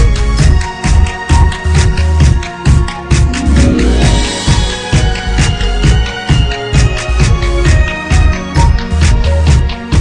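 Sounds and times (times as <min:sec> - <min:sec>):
electronic dance music: 0:00.5 - 0:08.8.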